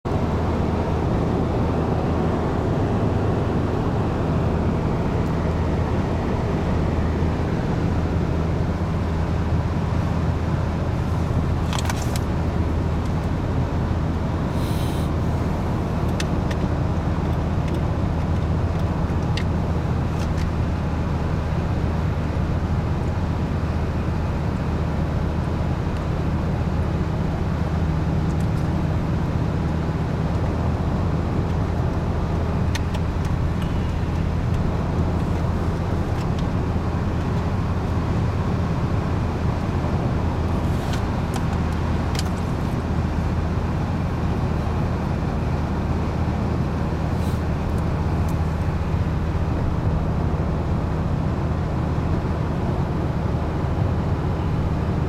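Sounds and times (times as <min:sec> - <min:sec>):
car tyre and engine drone: 0:00.0 - 0:55.0.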